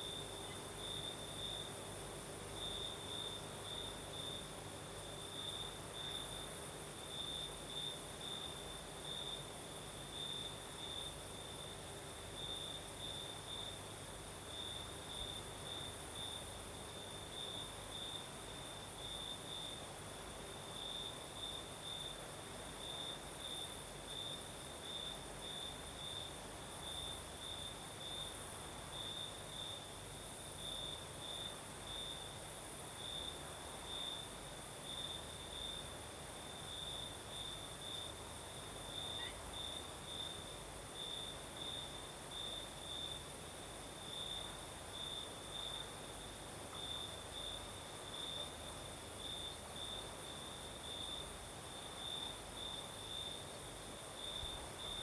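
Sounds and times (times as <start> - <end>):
continuous cricket trill: 0.0 - 55.0
cricket chirping: 0.0 - 55.0
soft breeze hiss: 0.0 - 55.0.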